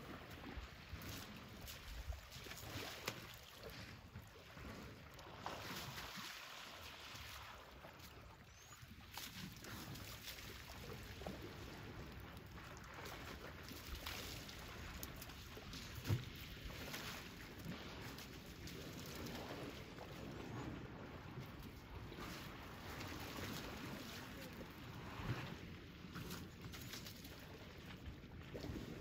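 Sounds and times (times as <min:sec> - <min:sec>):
water sloshing and splashing: 0:00.0 - 0:29.0.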